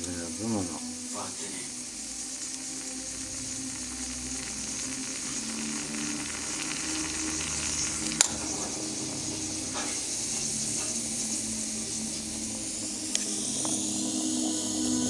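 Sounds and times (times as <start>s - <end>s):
moka pot hissing and sputtering: 0.0s - 15.0s.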